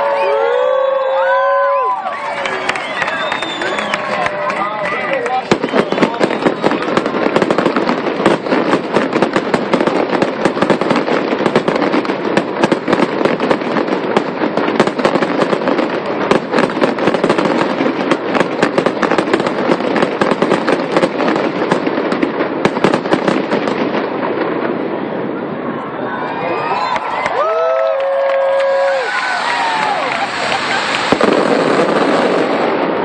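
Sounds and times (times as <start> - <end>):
fireworks bangs and crackles: 0.0 - 26.0, 26.6 - 33.0.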